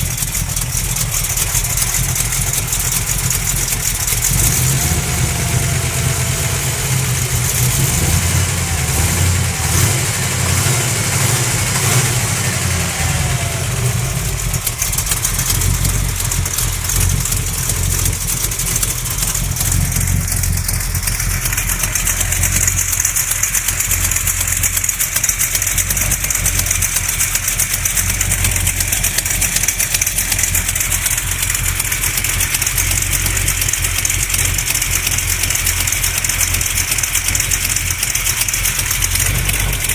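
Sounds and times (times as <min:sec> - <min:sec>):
engine running: 0:00.0 - 0:39.9
rapid engine tick-knock: 0:00.0 - 0:39.9.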